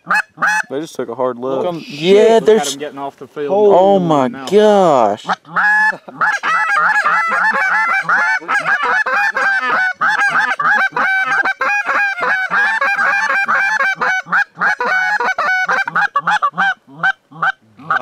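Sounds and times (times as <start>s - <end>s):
geese honking: 0.0s - 0.8s, 1.5s - 3.0s, 3.6s - 18.0s.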